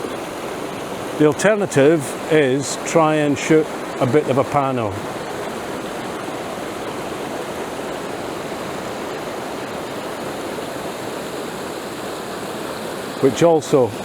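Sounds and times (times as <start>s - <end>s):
fast-running river water: 0.0s - 14.0s
small waterfall rushing: 0.0s - 14.0s.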